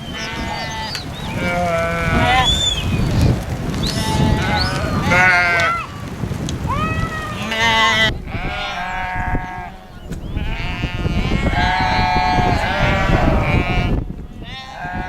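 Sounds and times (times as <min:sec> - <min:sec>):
sheep bleating: 0:00.0 - 0:02.7, 0:03.9 - 0:06.0, 0:06.8 - 0:15.0.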